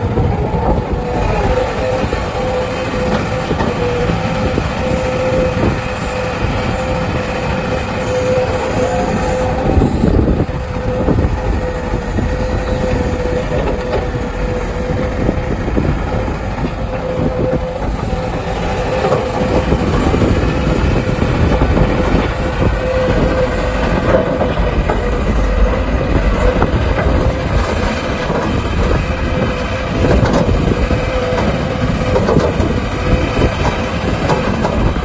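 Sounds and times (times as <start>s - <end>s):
excavator clanks and rattles: 0.0s - 35.0s
excavator diesel engine whining: 0.0s - 35.0s.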